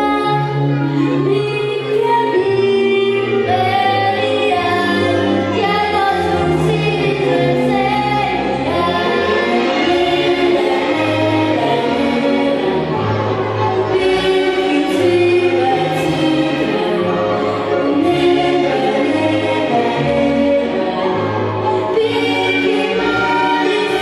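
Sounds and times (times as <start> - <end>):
musical backing: 0.0 - 24.0
group of voices singing: 1.2 - 24.0.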